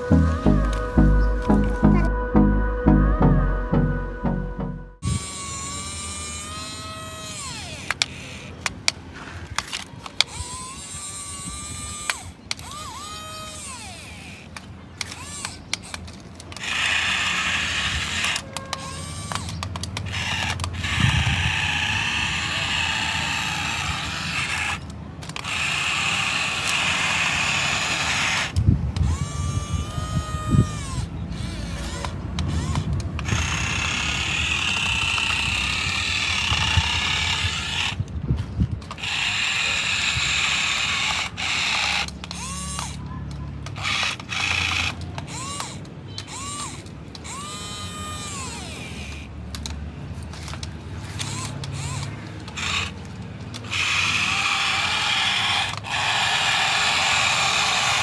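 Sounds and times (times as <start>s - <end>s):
toy car motor whirring: 0.0s - 2.1s, 5.0s - 58.0s.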